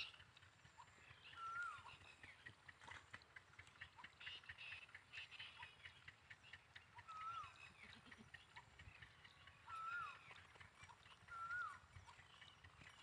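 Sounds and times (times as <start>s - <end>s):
rapid ticking bird notes: 0.0s - 13.0s.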